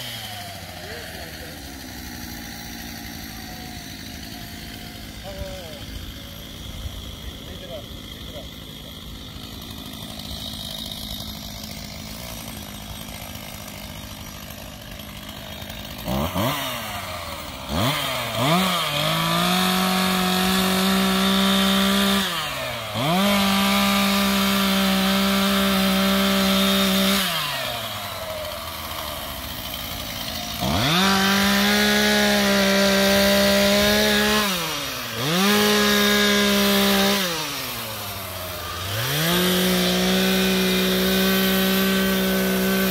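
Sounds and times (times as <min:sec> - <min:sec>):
chainsaw cutting branches: 0:00.0 - 0:42.9
chainsaw idling and revving: 0:00.0 - 0:42.9.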